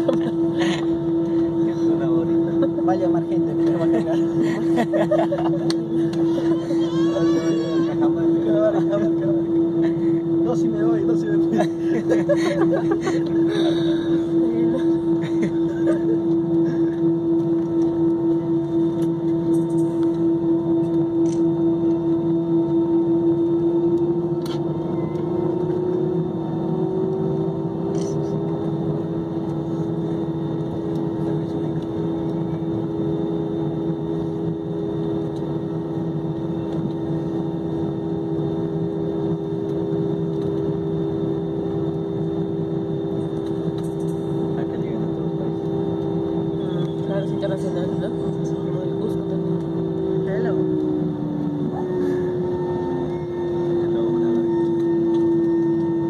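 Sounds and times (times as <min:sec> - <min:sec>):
jet engines humming: 0:00.0 - 0:56.0.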